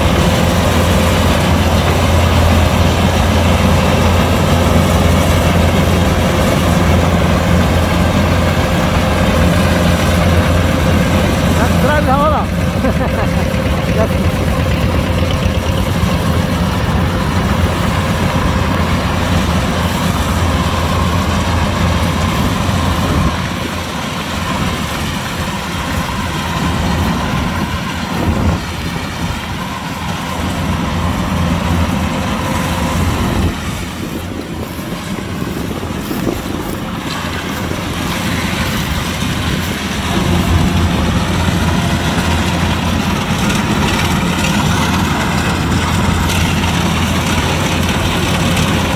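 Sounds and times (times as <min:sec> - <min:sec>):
combine harvester engine drone: 0:00.0 - 0:48.9
steady whine: 0:00.0 - 0:48.9.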